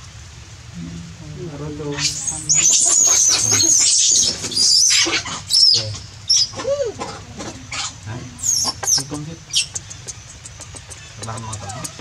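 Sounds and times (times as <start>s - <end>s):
baby monkeys squealing: 1.9s - 12.0s.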